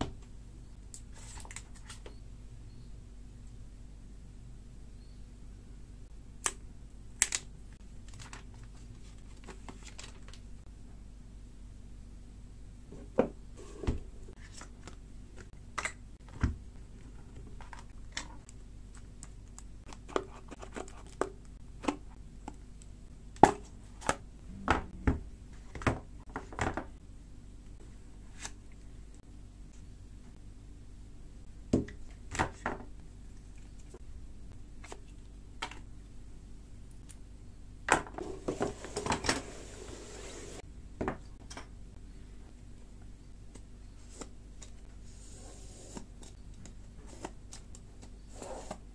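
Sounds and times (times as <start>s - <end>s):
steady low hum: 2.2s - 39.2s, 40.5s - 48.9s.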